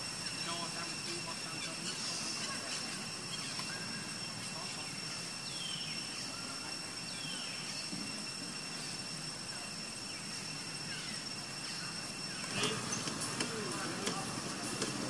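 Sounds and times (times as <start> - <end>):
faint chirping calls: 0.0 - 15.0
insect drone: 0.0 - 15.0.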